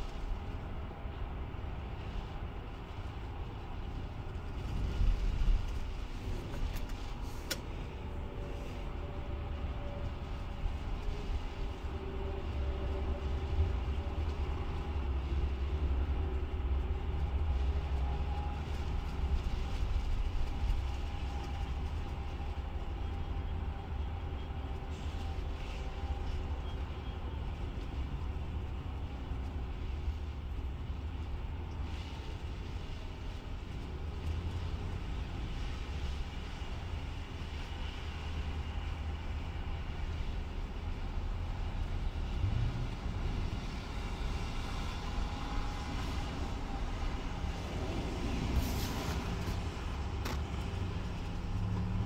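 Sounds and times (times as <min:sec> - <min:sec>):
bus engine rumble: 0:00.0 - 0:52.0.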